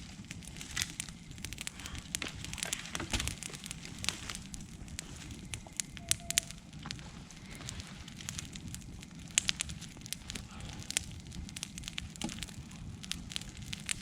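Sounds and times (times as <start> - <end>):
campfire crackling and popping: 0.0 - 14.0
low rumble of flames: 0.0 - 14.0.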